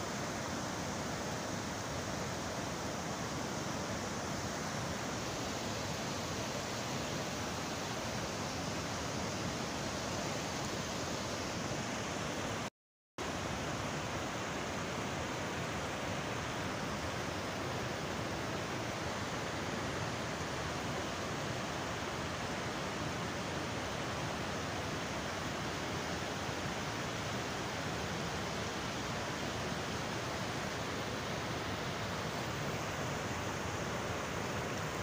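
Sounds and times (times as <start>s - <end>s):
river rushing over boulders: 0.0s - 35.0s.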